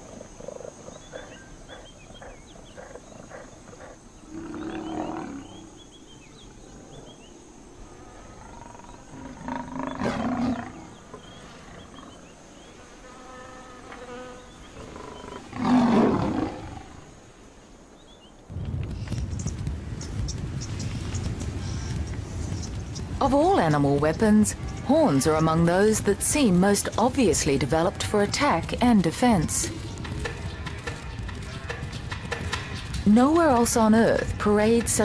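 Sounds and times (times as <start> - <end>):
insects buzzing: 0.0 - 35.0.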